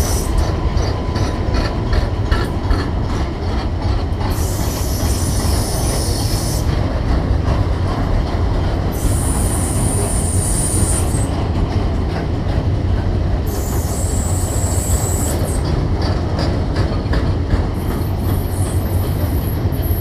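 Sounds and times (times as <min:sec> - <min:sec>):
freight train wagons rumbling: 0:00.0 - 0:20.0.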